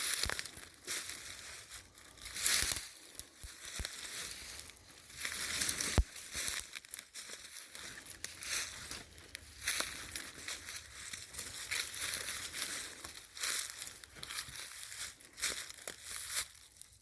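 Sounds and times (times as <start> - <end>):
twigs snapping: 0.0 - 16.9
footsteps crunching through dry leaves: 0.0 - 17.0.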